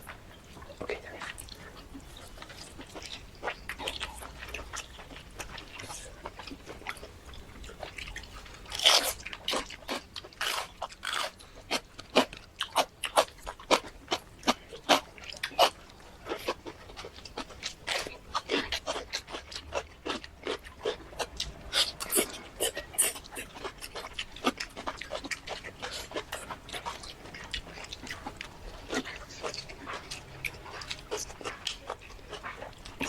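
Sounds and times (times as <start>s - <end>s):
chewing crispy food: 0.0s - 33.0s.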